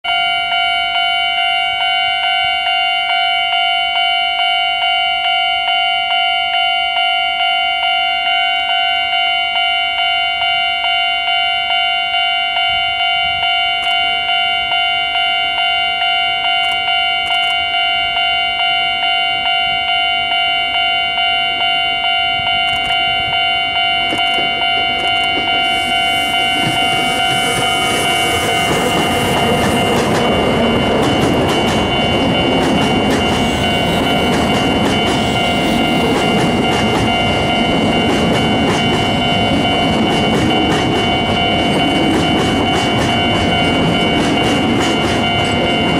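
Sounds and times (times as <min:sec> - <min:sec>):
level crossing warning bell: 0:00.0 - 0:45.9
freight train passing: 0:00.1 - 0:45.9.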